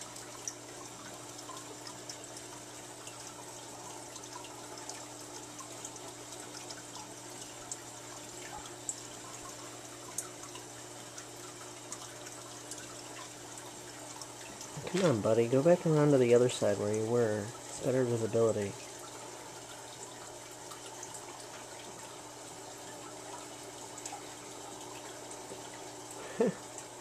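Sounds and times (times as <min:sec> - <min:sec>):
water trickling: 0:00.0 - 0:27.0
faint drips: 0:00.1 - 0:27.0.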